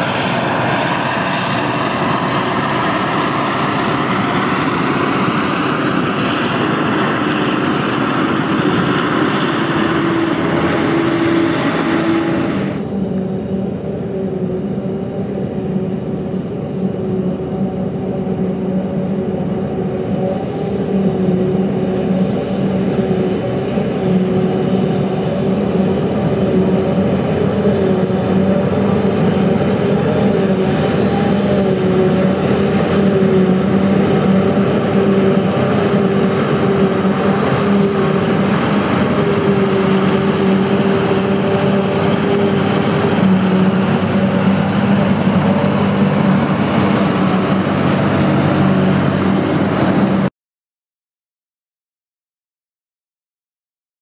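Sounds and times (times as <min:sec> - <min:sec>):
tractor and trailer running: 0:00.0 - 0:50.3.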